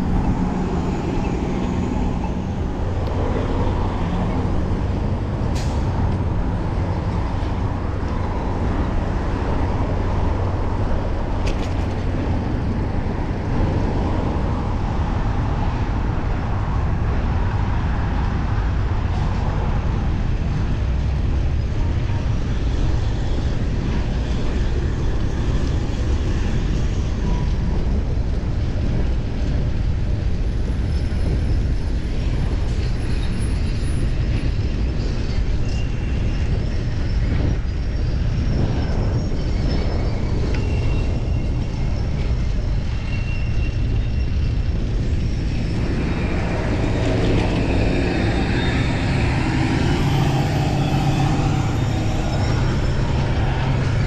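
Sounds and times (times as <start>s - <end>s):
city street traffic: 0.0s - 54.0s
wind on microphone: 0.0s - 54.0s.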